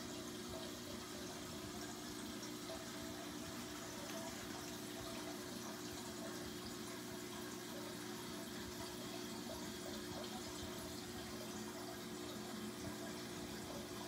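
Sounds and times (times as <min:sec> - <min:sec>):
water flowing in aquarium filter: 0:00.0 - 0:14.0.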